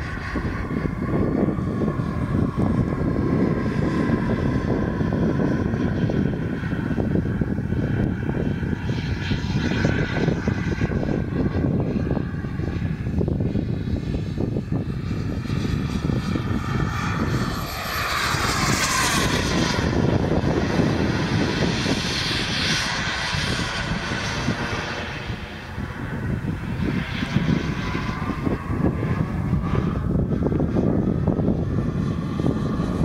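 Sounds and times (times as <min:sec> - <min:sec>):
model jet turbine whining: 0:00.0 - 0:33.0.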